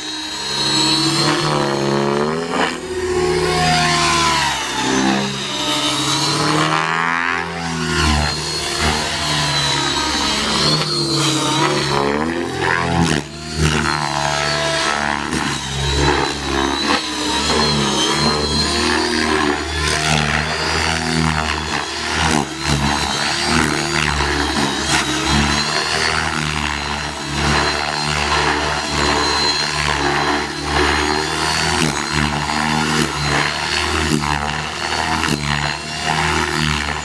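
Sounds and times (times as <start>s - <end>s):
helicopter main rotor beat: 0.0s - 37.0s
motor and blades whine: 0.0s - 37.0s.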